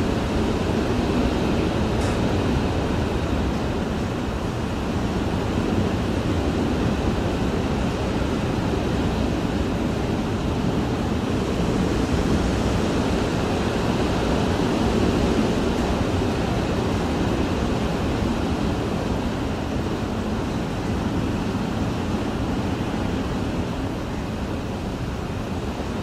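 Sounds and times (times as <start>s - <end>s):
hurricane wind rushing: 0.0s - 26.0s.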